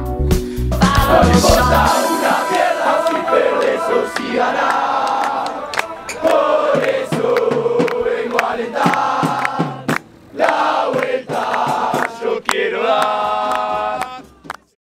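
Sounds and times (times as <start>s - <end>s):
choir singing held notes: 0.8s - 14.5s.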